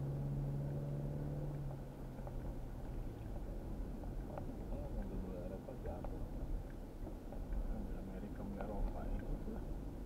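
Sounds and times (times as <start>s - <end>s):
engine and tyre rumble: 0.0s - 10.0s.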